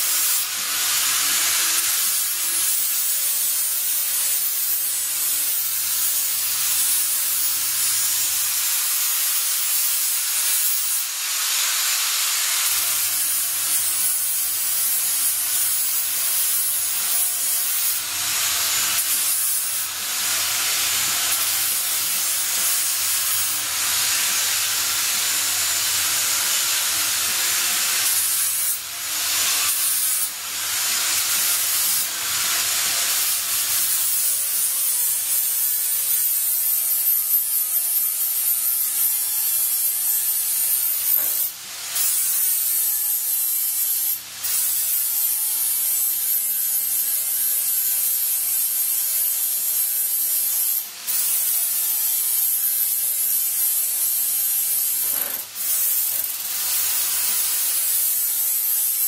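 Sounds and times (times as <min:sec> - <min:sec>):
grinding tool rasping on metal: 0:00.0 - 0:59.0.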